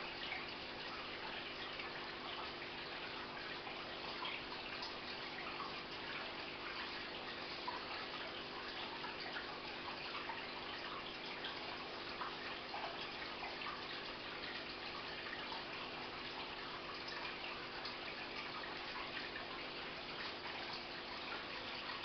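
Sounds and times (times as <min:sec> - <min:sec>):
aquarium filter water trickling: 0:00.0 - 0:22.0
faint pump hum: 0:00.0 - 0:22.0
small water drips: 0:00.0 - 0:22.0.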